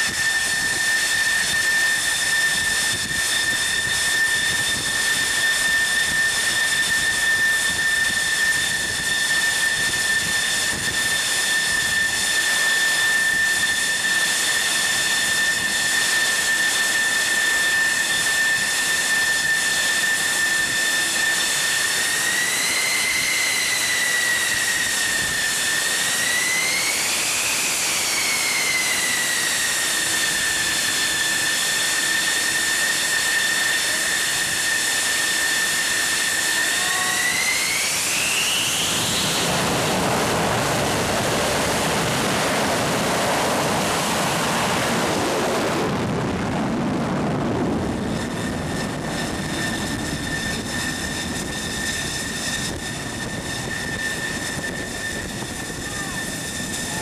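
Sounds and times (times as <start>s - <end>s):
jet engine rushing roar: 0.0s - 57.0s
jet engine turbine whine: 0.0s - 57.0s.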